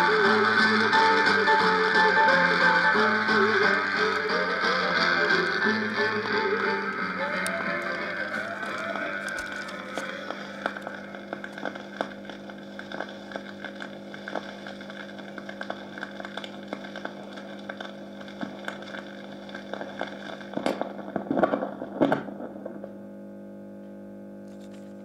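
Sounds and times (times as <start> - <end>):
record surface crackle and clicks: 0.0 - 23.1, 23.8 - 25.0
steady electrical hum: 0.0 - 25.0.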